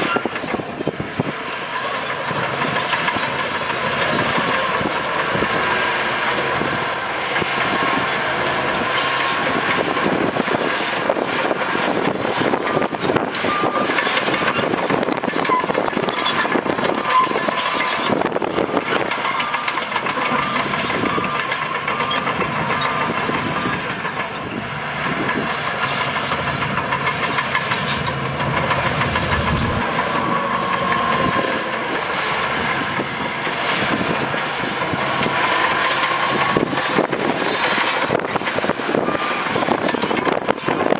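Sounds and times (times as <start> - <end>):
bulldozer diesel engine: 0.0 - 40.9
crawler tracks clatter and squeal: 0.0 - 40.9.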